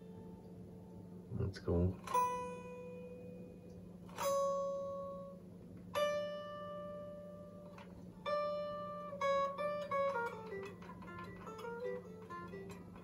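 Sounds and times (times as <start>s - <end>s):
steady low hum: 0.0s - 13.0s
guitar notes plucked: 1.8s - 13.0s.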